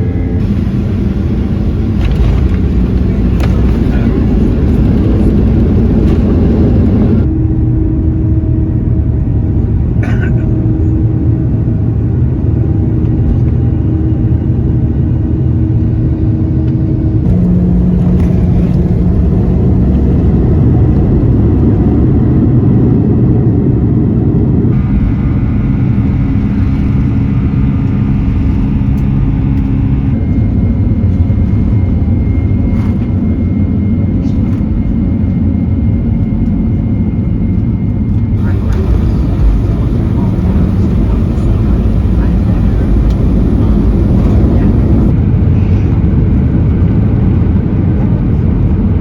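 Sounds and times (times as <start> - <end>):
jet engine rumble: 0.0 - 49.0.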